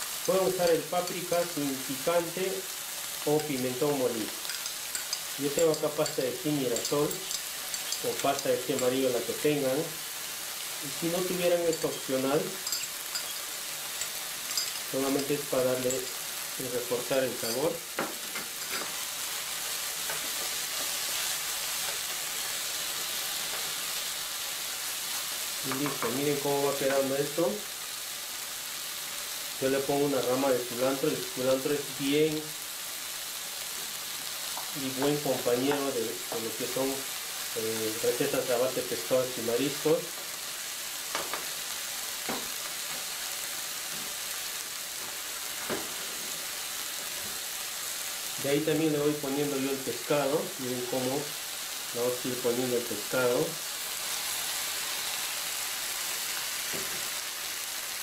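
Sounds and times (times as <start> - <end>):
vegetables sizzling in oil: 0.0 - 58.0.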